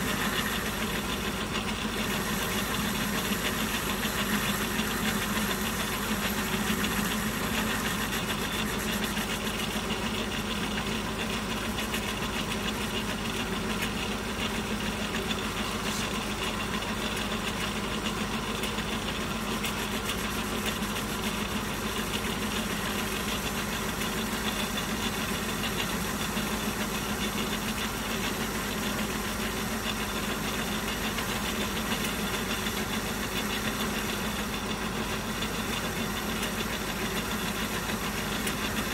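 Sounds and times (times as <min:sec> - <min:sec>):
lathe humming: 0:00.0 - 0:38.9.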